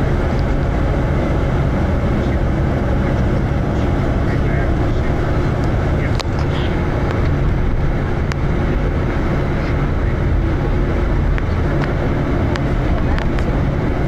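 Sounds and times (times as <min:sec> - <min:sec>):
vehicle rumble from inside: 0:00.0 - 0:14.0.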